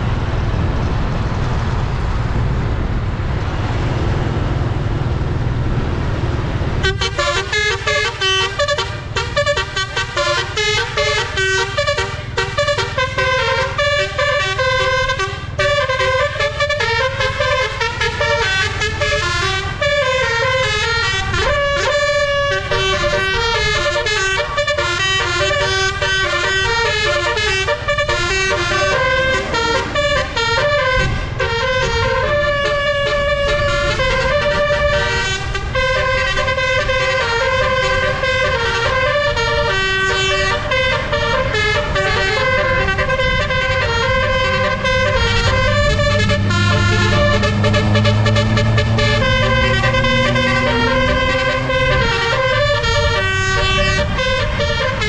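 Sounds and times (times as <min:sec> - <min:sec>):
engine and road rumble: 0:00.0 - 0:55.0
musical air horn playing a tune: 0:06.8 - 0:55.0.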